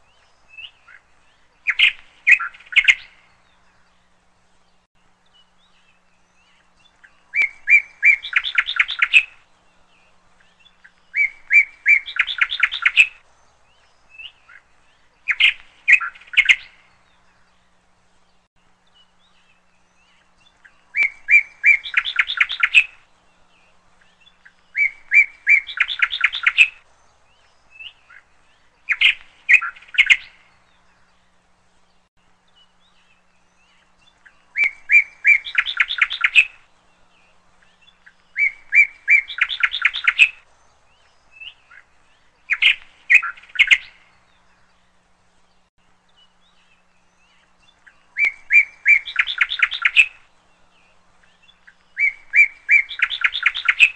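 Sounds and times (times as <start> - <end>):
songbird singing trills: 0.0 - 53.9.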